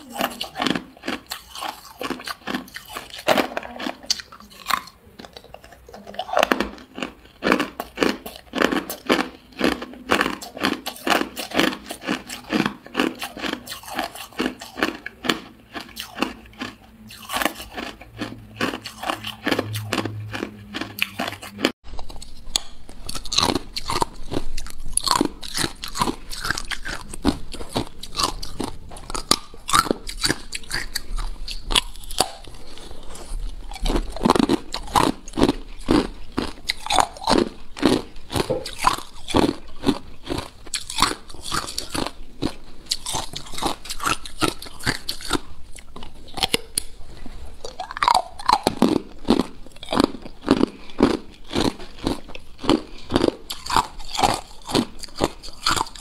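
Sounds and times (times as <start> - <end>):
ice cubes crunching in mouth: 0.0 - 46.9, 47.6 - 56.0.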